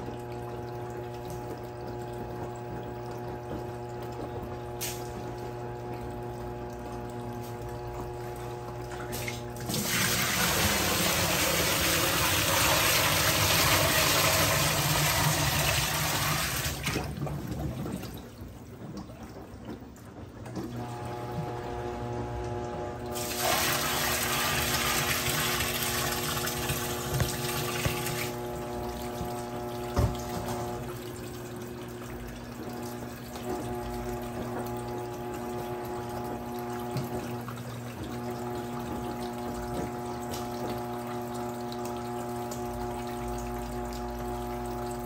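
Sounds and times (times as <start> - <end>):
washing machine hum: 0.0 - 45.0
water rushing into washing machine: 0.0 - 45.0.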